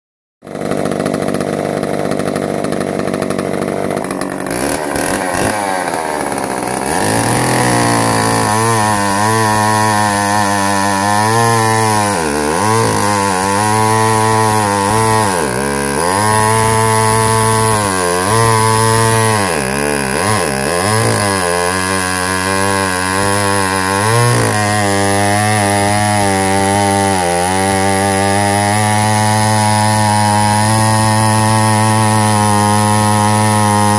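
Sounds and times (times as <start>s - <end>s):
chainsaw revving and cutting log: 0.4s - 33.9s.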